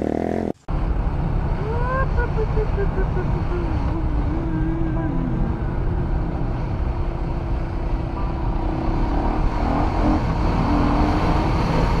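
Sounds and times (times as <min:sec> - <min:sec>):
heavy low rumble: 0:00.7 - 0:11.1.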